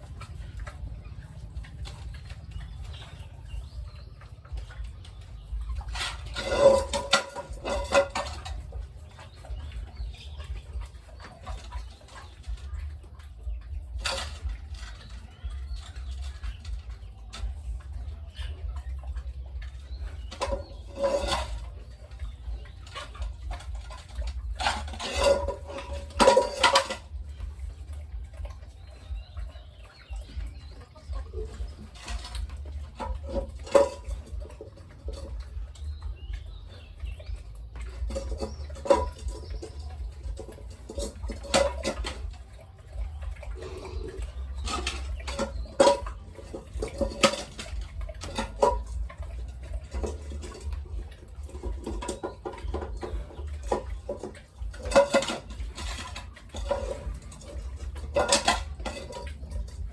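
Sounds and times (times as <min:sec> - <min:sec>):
metallic clanks and knocks: 0:00.0 - 0:59.9
steady low hum: 0:00.0 - 0:59.9.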